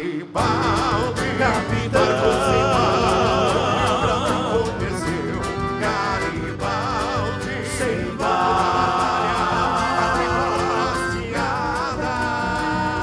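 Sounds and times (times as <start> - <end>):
folk instrumental accompaniment: 0.4 - 13.0.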